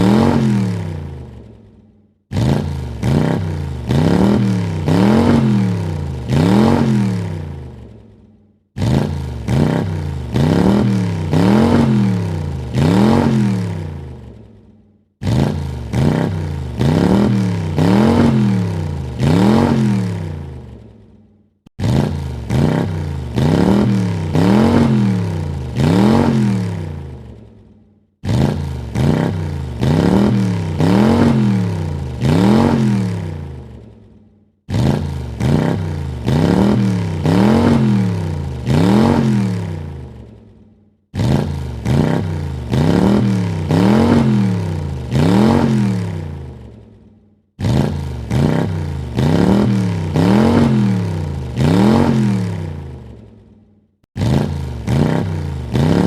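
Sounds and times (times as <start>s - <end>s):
car engine revving: 0.0s - 1.5s, 2.3s - 8.0s, 8.8s - 14.6s, 15.2s - 20.9s, 21.7s - 27.4s, 28.2s - 33.9s, 34.7s - 40.4s, 41.2s - 46.8s, 47.6s - 53.2s, 54.2s - 56.0s.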